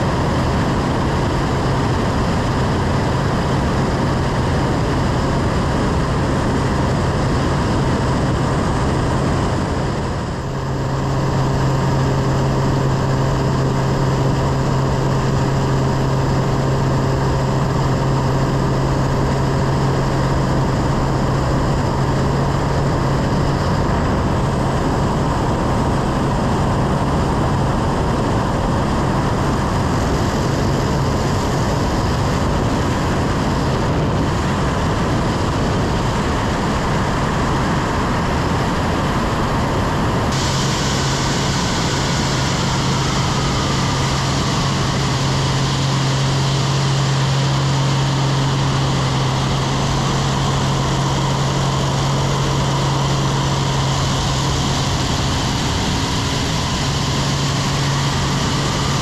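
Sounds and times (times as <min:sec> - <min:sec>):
airflow rushing over microphone: 0:00.0 - 0:59.0
propeller plane engine: 0:00.0 - 0:59.0.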